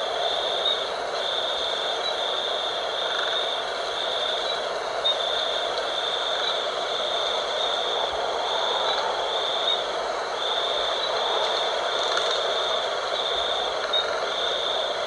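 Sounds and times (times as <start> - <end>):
high-pitched insect trill: 0.0 - 15.0
night wind blowing: 0.0 - 15.0.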